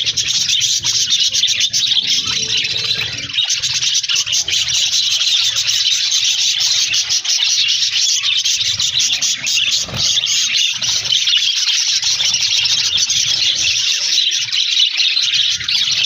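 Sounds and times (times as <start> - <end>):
flock of birds chattering: 0.0 - 16.0.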